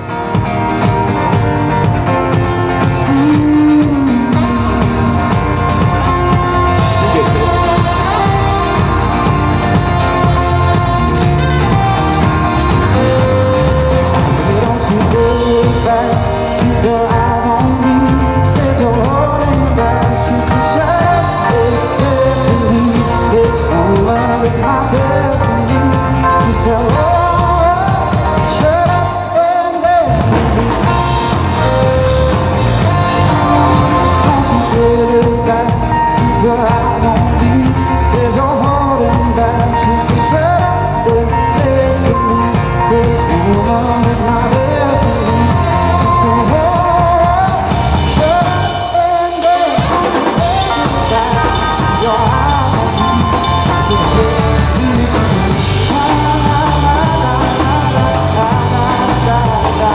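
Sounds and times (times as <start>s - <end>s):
live band playing rock-pop: 0.0s - 59.9s.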